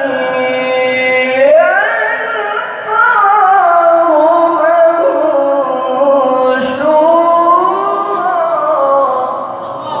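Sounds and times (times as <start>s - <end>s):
man reciting in melismatic chant: 0.0s - 10.0s.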